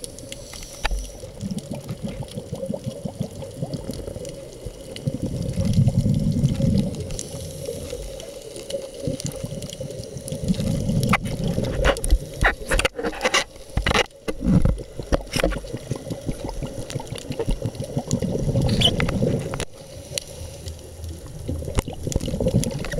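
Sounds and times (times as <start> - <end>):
underwater exhaled bubbles: 0.0 - 22.9.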